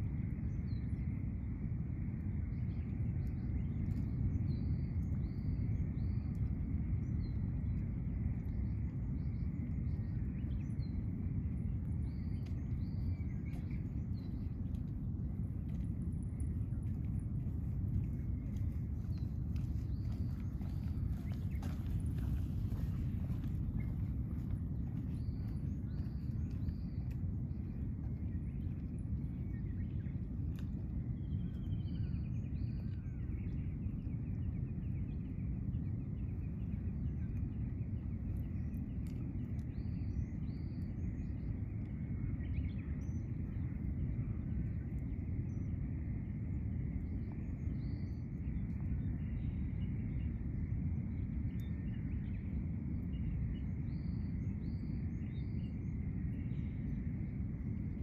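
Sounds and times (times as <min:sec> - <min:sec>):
faint high hum: 0:00.0 - 0:58.0
steady low noise: 0:00.0 - 0:58.0
small birds chirping: 0:02.4 - 0:58.0.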